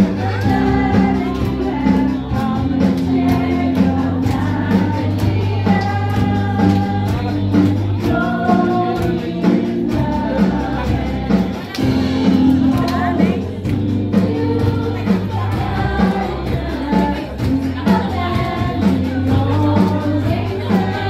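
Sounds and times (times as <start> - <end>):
bass: 0.0 - 21.0
gospel band with singing: 0.0 - 21.0
steady drum beat: 0.0 - 21.0.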